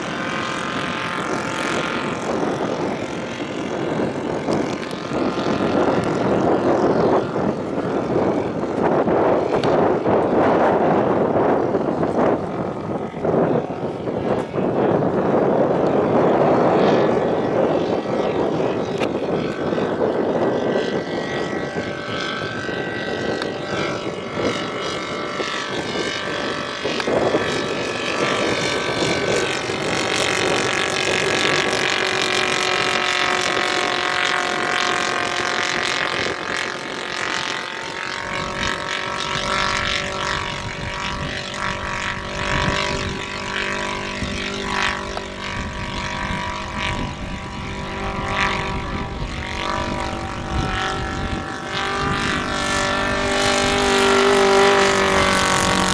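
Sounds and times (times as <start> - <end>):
model aircraft engine droning: 0.0 - 55.9.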